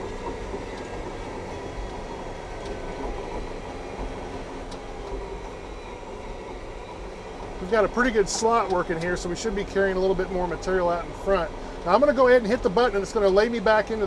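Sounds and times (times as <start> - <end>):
bulldozer engine rumbling: 0.0 - 14.0.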